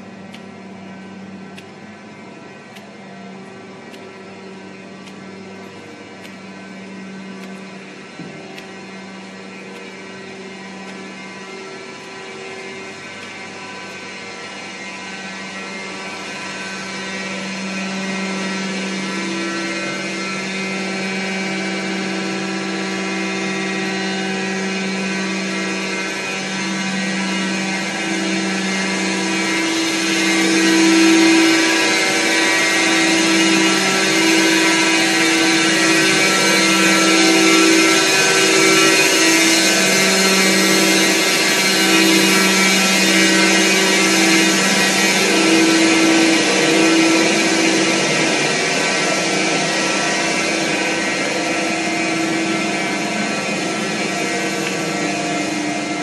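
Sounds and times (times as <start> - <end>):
turbine generators humming: 0.0 - 56.0.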